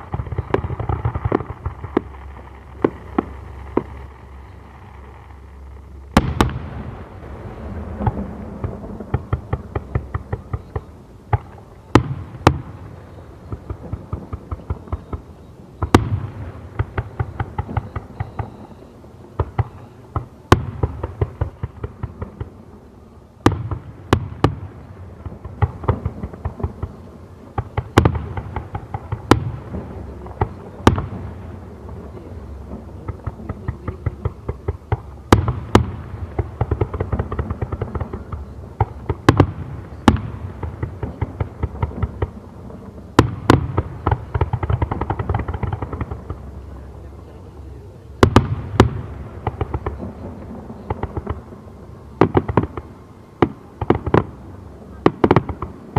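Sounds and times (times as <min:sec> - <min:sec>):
rapid crackling pops: 0:00.0 - 0:18.7, 0:23.4 - 0:55.9.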